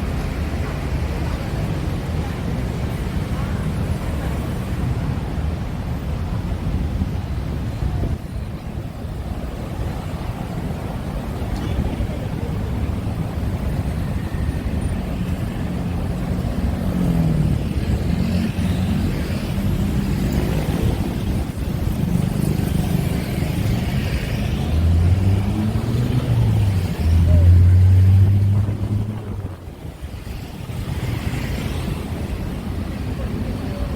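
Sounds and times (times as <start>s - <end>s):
large engine rumbling: 0.0s - 33.9s.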